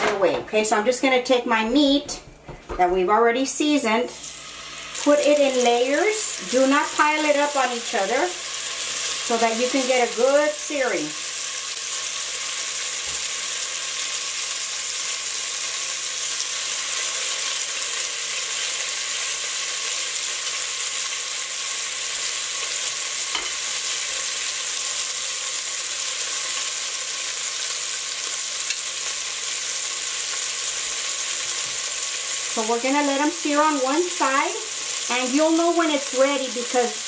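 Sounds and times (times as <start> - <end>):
meat sizzling in oil: 4.1 - 37.0.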